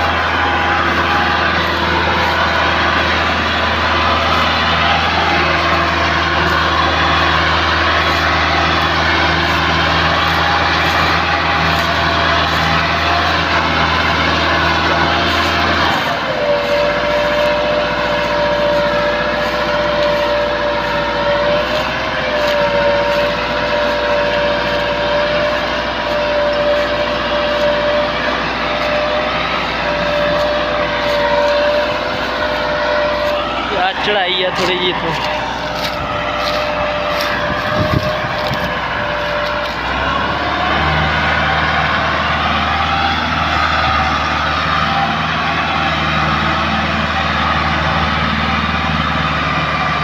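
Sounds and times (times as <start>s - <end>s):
steady high whine: 0.0s - 47.2s
tractor engine running: 0.0s - 50.0s.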